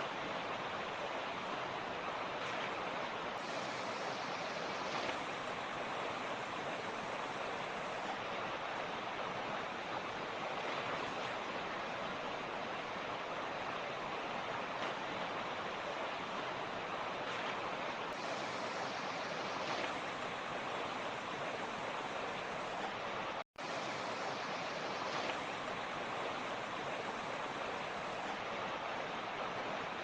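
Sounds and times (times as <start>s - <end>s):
creek rushing over rocks: 0.0s - 30.0s.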